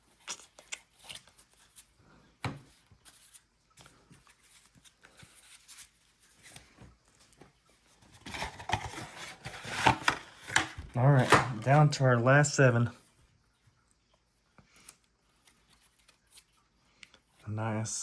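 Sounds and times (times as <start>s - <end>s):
cards rustling and scraping: 0.0s - 12.0s, 14.2s - 17.4s.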